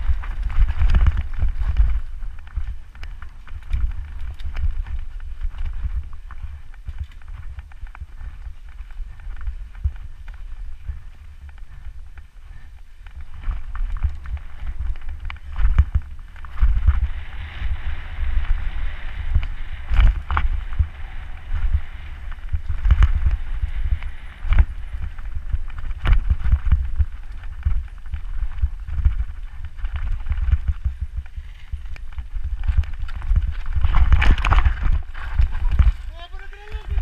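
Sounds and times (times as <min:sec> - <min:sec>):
bike knocking and rattling: 0:00.0 - 0:37.0
wind buffeting on microphone: 0:00.0 - 0:37.0.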